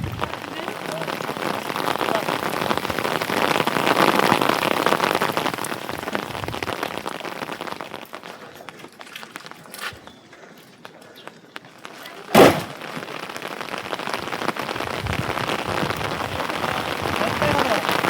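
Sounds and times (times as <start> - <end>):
heavy rain pattering: 0.0 - 18.0.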